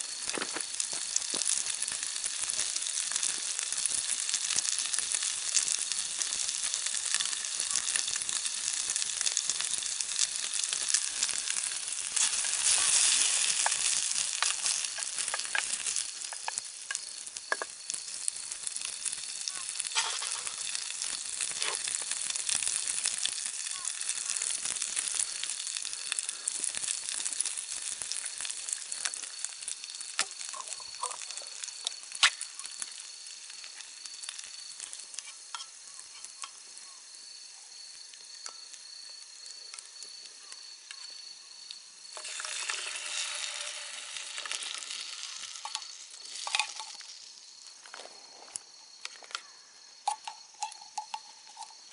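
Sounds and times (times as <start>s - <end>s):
campfire crackles: 0.0s - 51.9s
food sizzling in a pot: 0.0s - 51.9s.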